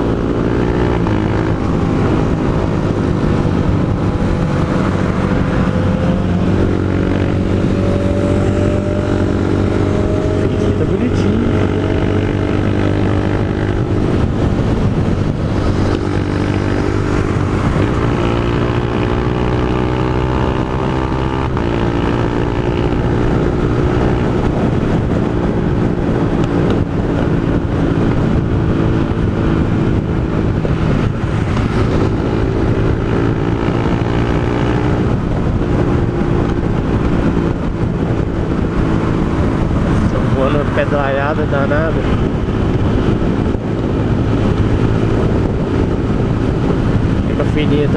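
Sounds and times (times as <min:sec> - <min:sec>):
motorcycle engine shifting gears: 0:00.0 - 0:47.9.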